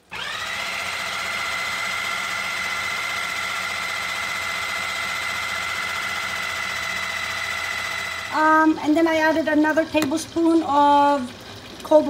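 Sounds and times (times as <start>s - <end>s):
food processor whining: 0.0s - 12.0s.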